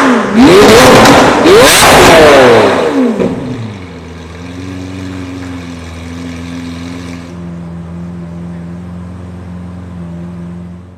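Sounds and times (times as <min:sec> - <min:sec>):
car engine idling: 0:00.1 - 0:10.9.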